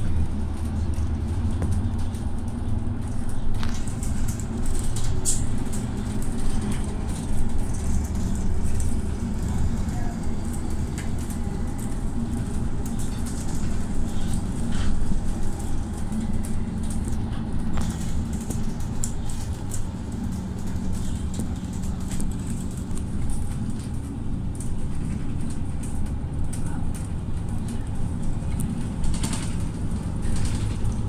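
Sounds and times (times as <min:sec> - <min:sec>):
bus engine drone: 0:00.0 - 0:31.0.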